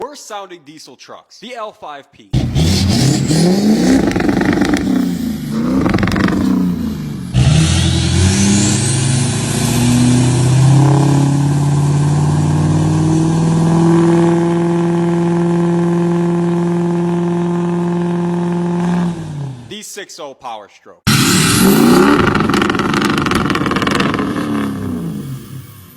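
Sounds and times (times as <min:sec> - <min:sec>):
pickup truck engine revving: 0:02.4 - 0:19.7, 0:21.1 - 0:25.9.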